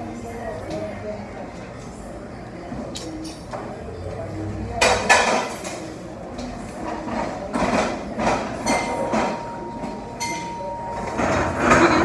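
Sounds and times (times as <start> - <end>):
restaurant background noise: 0.0 - 12.0.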